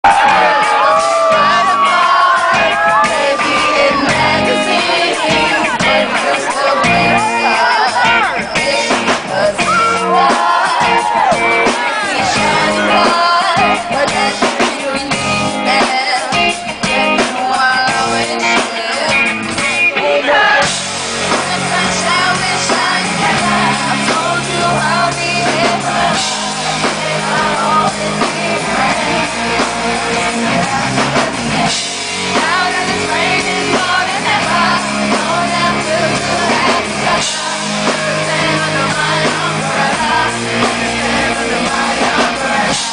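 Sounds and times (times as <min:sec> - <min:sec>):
live pop-rock band playing: 0:00.0 - 0:42.9
woman singing lead vocal: 0:00.1 - 0:42.9.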